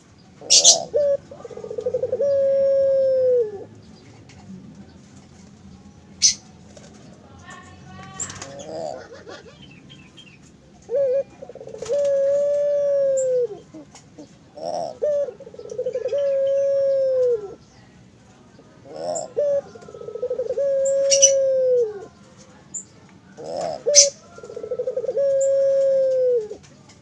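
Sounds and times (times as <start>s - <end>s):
dove cooing: 0.0s - 5.5s, 6.2s - 17.7s, 18.8s - 27.0s.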